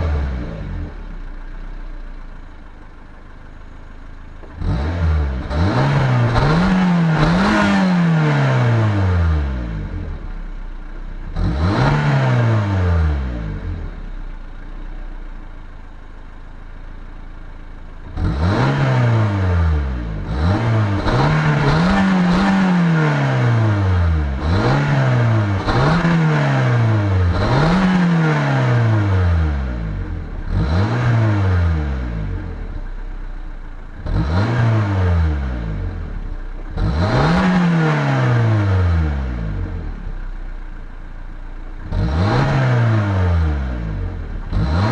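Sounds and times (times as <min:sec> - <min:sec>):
car engine revving: 0:00.0 - 0:02.7, 0:04.4 - 0:15.4, 0:18.0 - 0:44.9.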